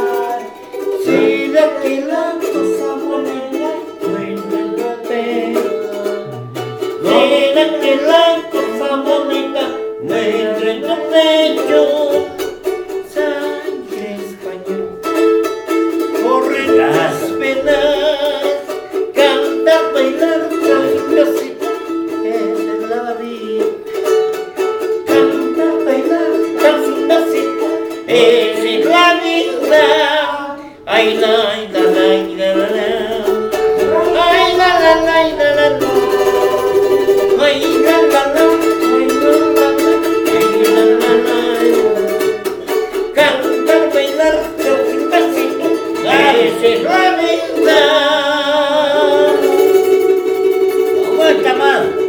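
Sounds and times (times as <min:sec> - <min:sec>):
charango strummed rapidly: 0:00.0 - 0:52.0
man singing: 0:00.0 - 0:52.0.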